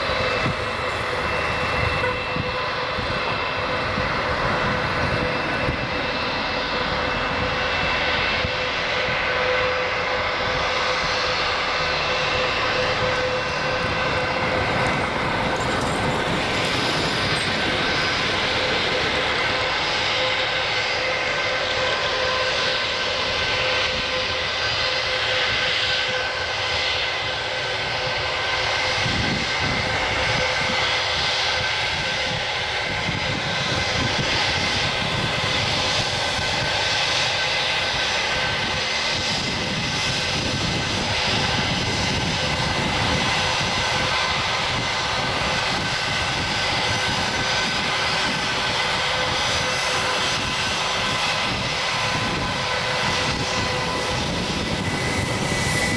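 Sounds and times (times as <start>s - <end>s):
jet engines taxiing: 0.0s - 55.9s.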